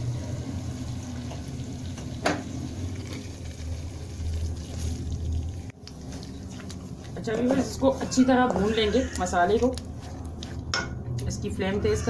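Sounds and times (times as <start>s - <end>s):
gravy simmering and stirring: 1.1s - 12.0s.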